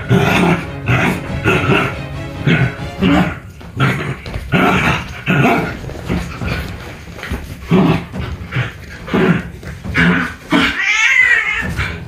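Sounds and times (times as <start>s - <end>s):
dog growling: 0.0s - 10.8s.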